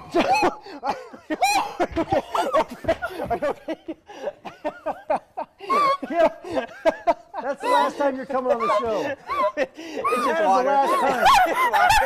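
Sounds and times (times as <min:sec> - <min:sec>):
people laughing hard: 0:00.0 - 0:12.0.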